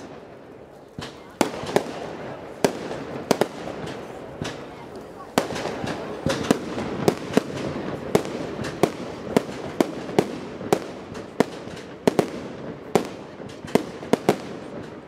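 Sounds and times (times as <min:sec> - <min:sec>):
background noise: 0:00.0 - 0:15.0
fireworks bangs: 0:00.0 - 0:15.0.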